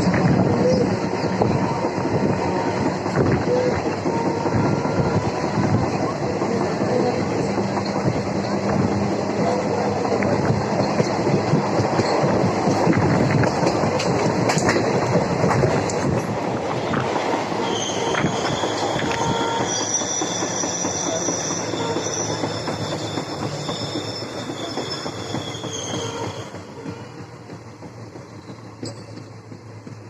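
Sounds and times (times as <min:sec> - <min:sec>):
train rumbling on rails: 0:00.0 - 0:30.0
wheels squealing against rails: 0:00.0 - 0:30.0.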